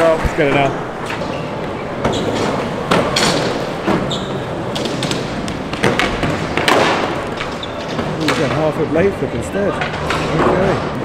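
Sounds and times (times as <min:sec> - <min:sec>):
skateboards rolling: 0:00.0 - 0:11.0
skateboards clacking and landing: 0:00.3 - 0:08.8, 0:09.6 - 0:11.0.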